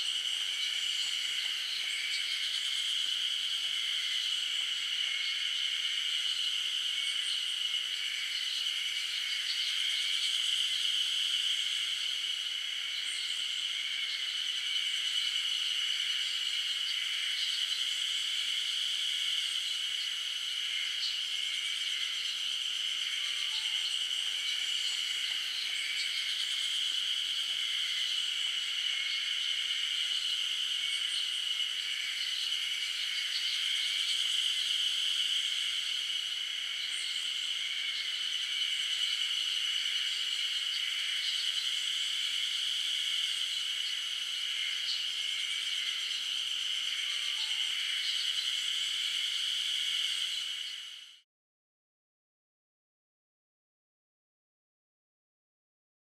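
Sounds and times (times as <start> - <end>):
insect chorus buzzing: 0.0 - 51.2.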